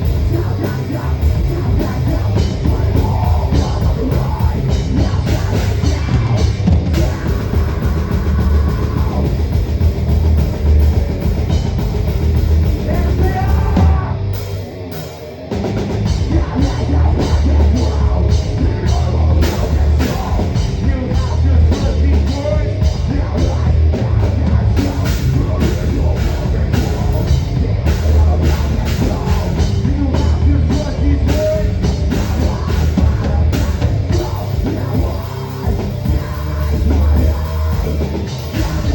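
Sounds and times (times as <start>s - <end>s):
drum kit: 0.0s - 38.9s
heavy metal band playing: 0.0s - 38.9s.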